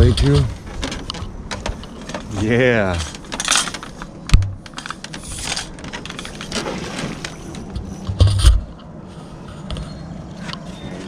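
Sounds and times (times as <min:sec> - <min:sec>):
scraping and clattering handling noise: 0:00.0 - 0:11.0.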